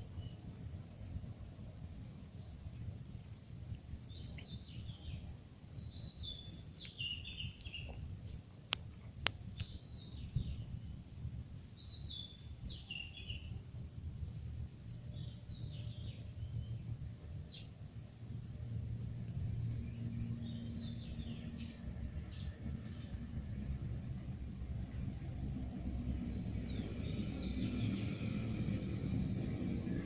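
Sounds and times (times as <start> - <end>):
steady low rumble: 0.0 - 30.0
songbird chirping: 2.2 - 8.1, 8.7 - 13.6, 14.2 - 17.8, 18.9 - 25.2, 26.1 - 30.0.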